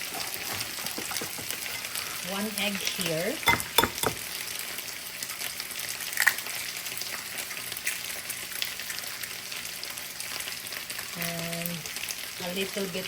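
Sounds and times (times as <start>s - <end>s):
potatoes frying in oil: 0.0s - 13.0s.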